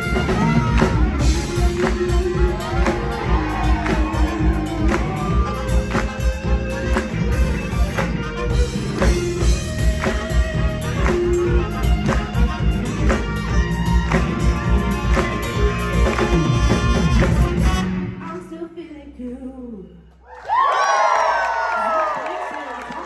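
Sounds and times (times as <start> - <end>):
live band playing: 0.0 - 18.5.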